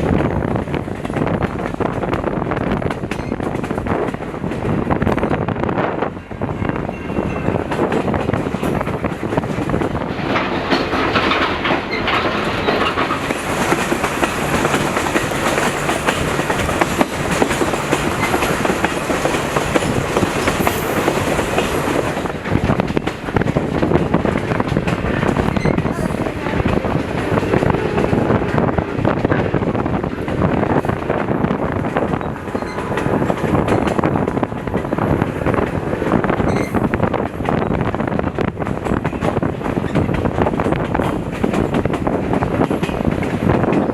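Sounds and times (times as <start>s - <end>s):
train car rolling on track: 0.0s - 43.9s
wheels clattering on rails: 0.0s - 43.9s.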